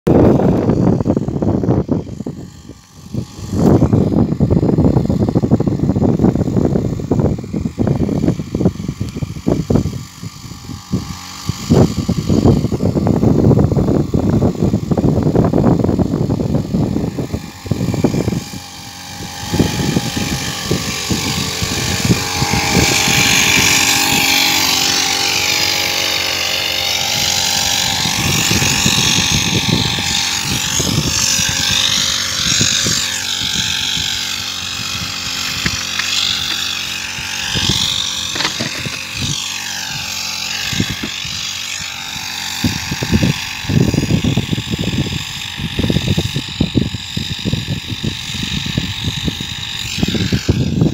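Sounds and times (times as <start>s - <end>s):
small petrol engine running: 0.1s - 50.9s.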